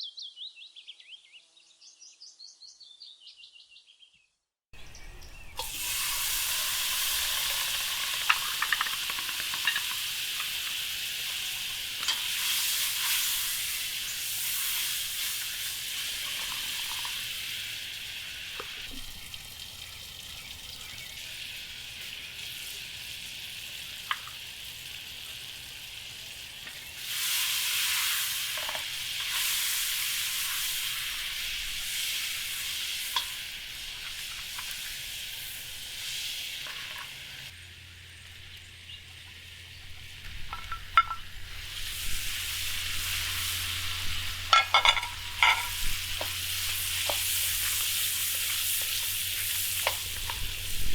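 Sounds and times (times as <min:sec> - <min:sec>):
food sizzling in hot oil: 0:04.8 - 0:50.9.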